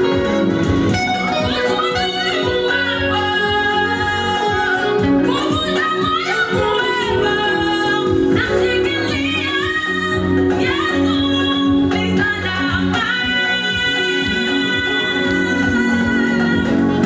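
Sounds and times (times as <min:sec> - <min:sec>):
instrumental accompaniment with beat: 0:00.0 - 0:17.0.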